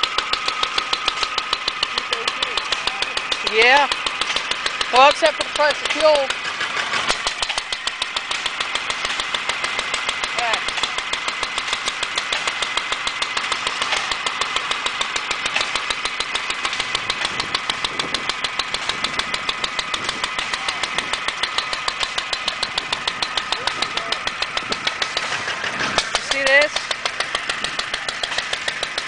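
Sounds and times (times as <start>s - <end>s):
single-cylinder engine running: 0.0s - 29.0s.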